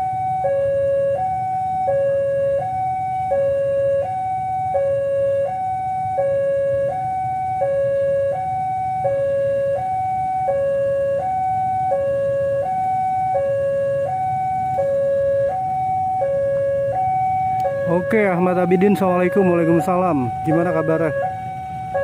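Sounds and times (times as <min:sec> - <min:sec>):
level-crossing two-tone alarm: 0:00.0 - 0:22.0.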